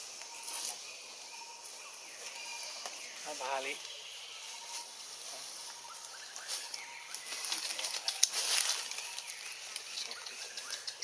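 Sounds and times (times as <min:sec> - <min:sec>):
steady high hiss: 0:00.0 - 0:10.1
leaves rustling and crackling: 0:00.0 - 0:11.0.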